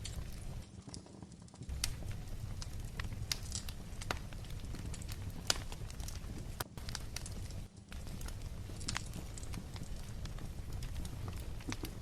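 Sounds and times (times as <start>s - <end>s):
steady low rumble: 0.0s - 0.6s, 1.7s - 12.0s
fire pops: 0.0s - 12.0s
wood fire crackling: 0.0s - 12.0s.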